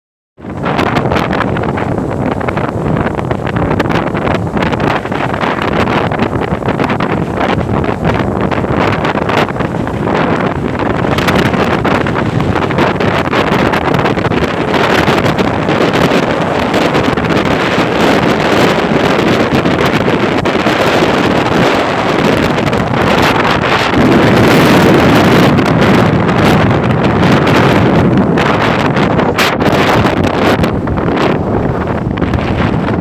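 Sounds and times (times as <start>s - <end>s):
wind on microphone: 0.4s - 33.0s.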